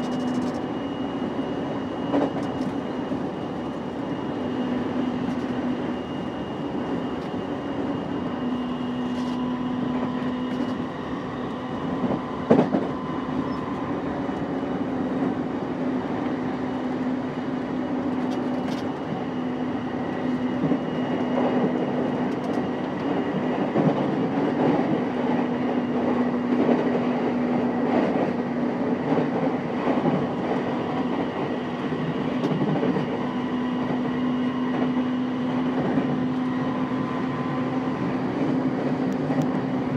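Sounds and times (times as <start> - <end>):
train steady hum: 0.0 - 39.9
wheels rumbling on track: 0.0 - 39.9.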